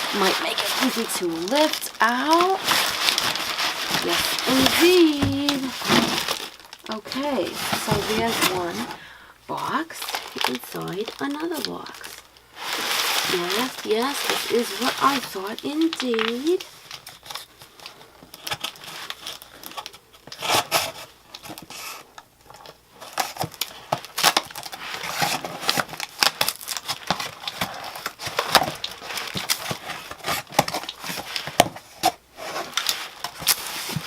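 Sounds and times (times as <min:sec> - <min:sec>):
cardboard and paper rustling: 0:00.0 - 0:34.0.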